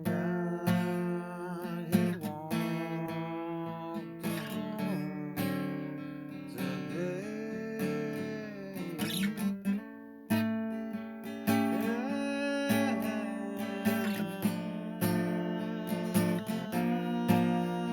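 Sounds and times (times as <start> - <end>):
acoustic guitar strumming: 0.0 - 17.9.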